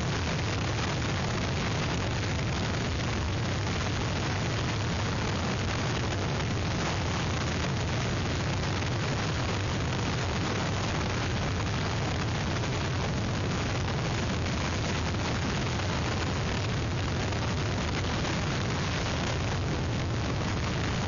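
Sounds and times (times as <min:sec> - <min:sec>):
strong wind blasting microphone: 0:00.0 - 0:21.0.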